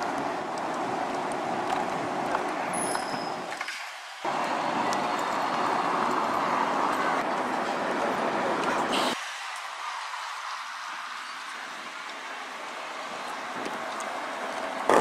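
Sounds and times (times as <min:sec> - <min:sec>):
street background noise: 0:00.0 - 0:15.0
bus passing close: 0:02.6 - 0:15.0.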